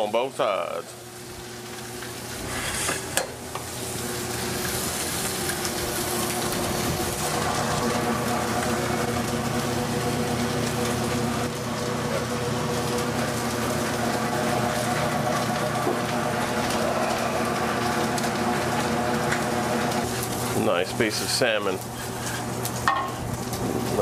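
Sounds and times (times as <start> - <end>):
fish sizzling on a griddle: 0.0 - 24.0
steady machine hum: 0.0 - 24.0.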